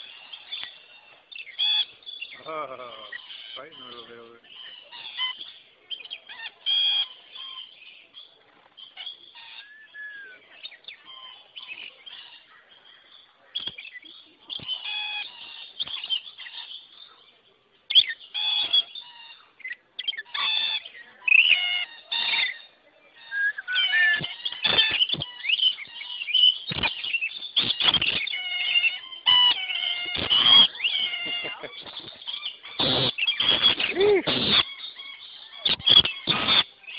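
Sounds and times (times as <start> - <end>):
lorikeets chattering and screeching: 0.0 - 36.9.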